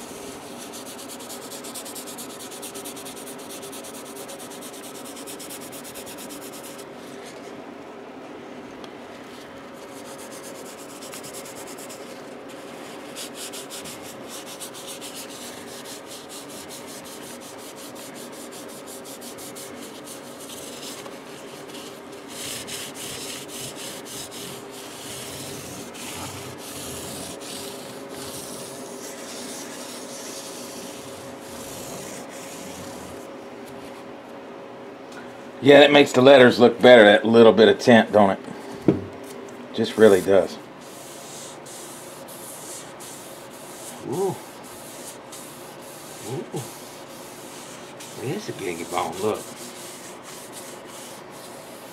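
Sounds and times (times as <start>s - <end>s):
faint steady hum: 0.0s - 51.9s
hand rubbing on wood: 0.1s - 7.4s, 9.4s - 34.0s, 40.0s - 51.9s.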